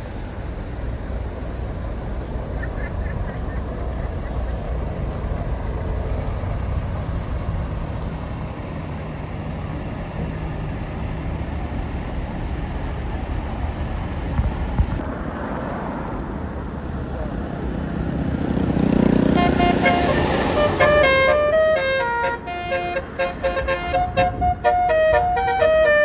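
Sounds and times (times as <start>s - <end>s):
bus diesel engine rumbling: 0.0s - 26.0s.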